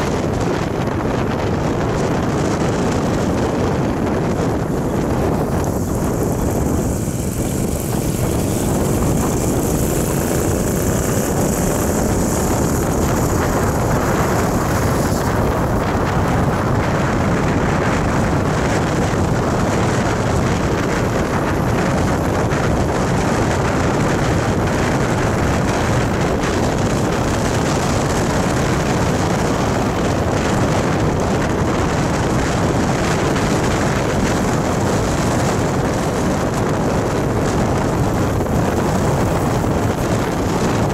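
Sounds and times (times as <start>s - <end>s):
engine and road noise: 0.0s - 40.9s
wind rush on microphone: 0.0s - 40.9s.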